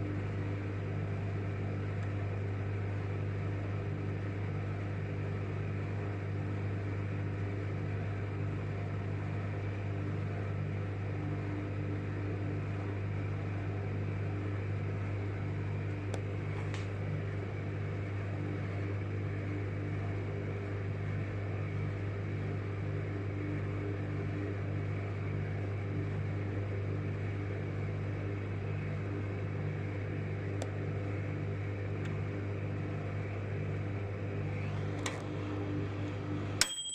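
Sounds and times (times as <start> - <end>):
microwave oven humming: 0.0 - 36.9.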